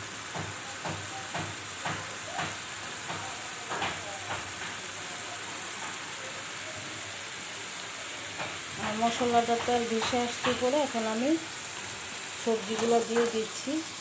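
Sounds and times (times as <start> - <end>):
spice paste sizzling and popping: 0.0 - 14.0.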